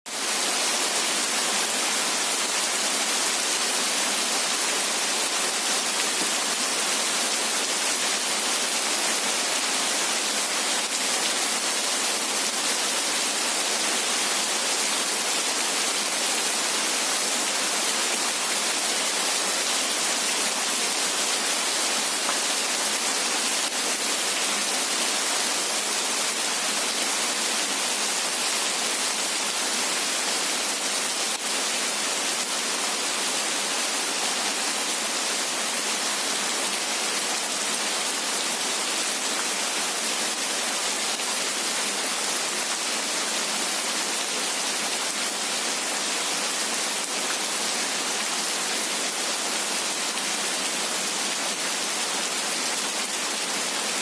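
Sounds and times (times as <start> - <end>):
heavy rain: 0.1 - 54.0.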